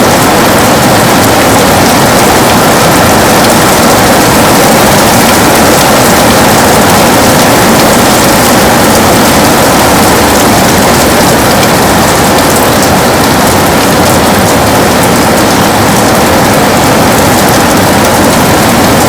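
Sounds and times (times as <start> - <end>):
heavy rain on a window: 0.0 - 19.0.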